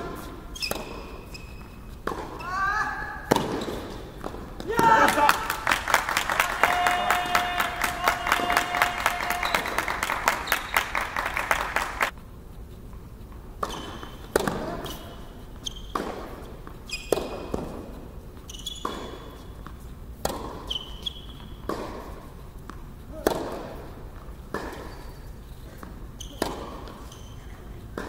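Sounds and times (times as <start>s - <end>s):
ball bouncing on court: 0.0s - 2.6s, 3.2s - 11.7s, 13.6s - 25.0s, 25.8s - 27.4s
sneaker squeaks: 0.0s - 5.0s, 6.4s - 12.2s, 13.5s - 28.0s.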